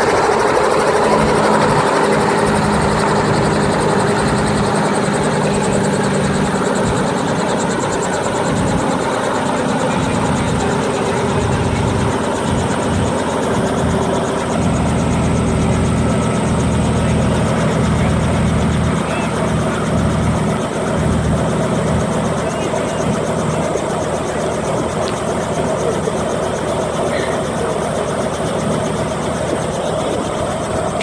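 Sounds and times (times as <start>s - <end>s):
helicopter engine whine: 0.0s - 31.0s
helicopter rotor chop: 0.0s - 31.0s.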